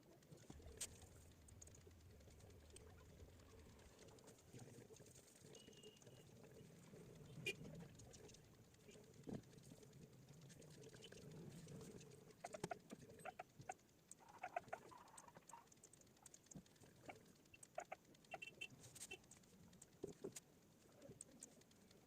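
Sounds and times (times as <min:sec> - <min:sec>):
computer mouse clicks: 0:00.0 - 0:22.0.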